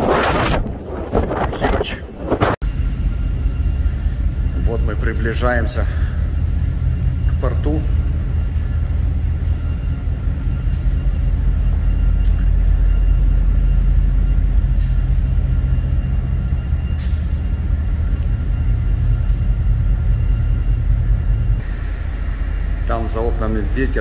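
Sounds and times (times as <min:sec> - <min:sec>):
strong wind rumble: 0:00.0 - 0:24.0.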